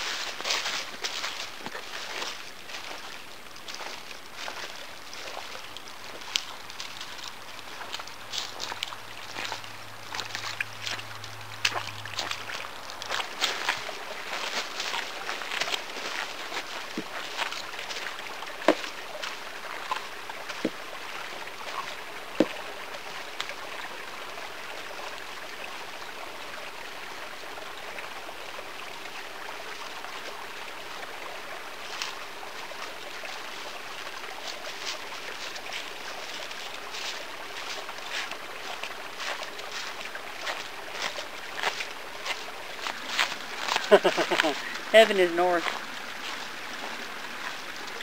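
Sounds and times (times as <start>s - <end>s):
footsteps in dry leaves: 0.0s - 23.4s, 31.0s - 48.0s
steady outdoor hiss: 0.0s - 48.0s.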